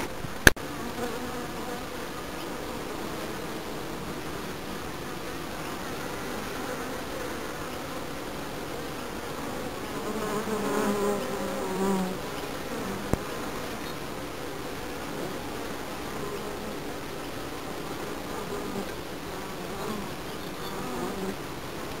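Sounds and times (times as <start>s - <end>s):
bee buzzing close by: 0.0s - 22.0s
honeybees buzzing: 0.0s - 22.0s.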